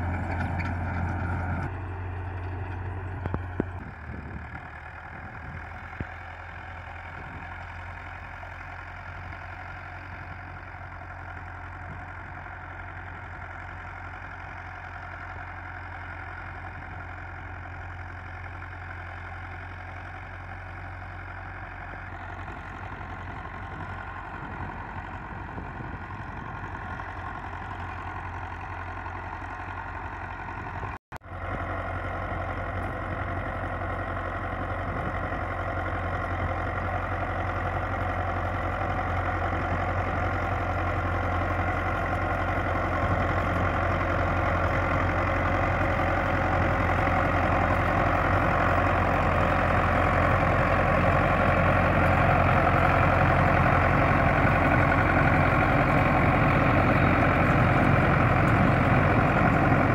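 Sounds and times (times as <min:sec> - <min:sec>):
diesel tractor engine under load: 0:00.0 - 0:59.9.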